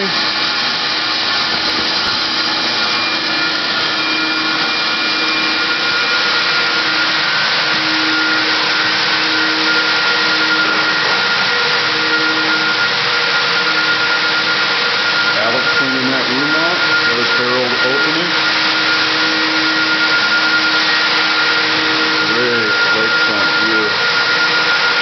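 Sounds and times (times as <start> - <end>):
faint high whine: 0.0 - 25.0
vacuum rushing air: 0.0 - 25.0.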